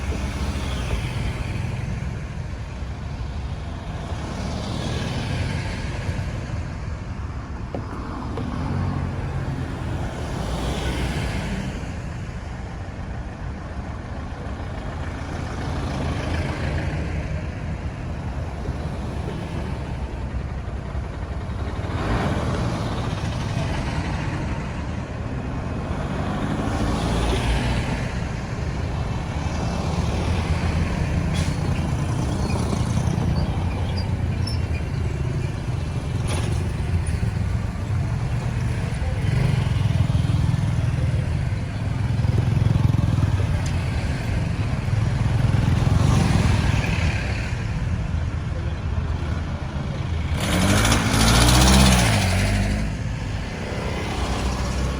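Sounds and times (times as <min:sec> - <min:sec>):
low rumble of road traffic: 0:00.0 - 0:54.9
vehicles passing by: 0:00.0 - 0:54.9.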